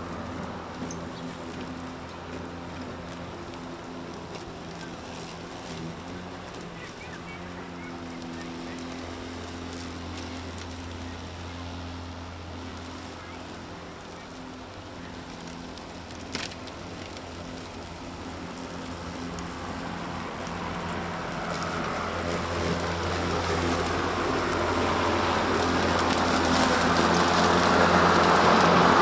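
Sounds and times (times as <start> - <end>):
electric lawn mower running: 0.0 - 29.0.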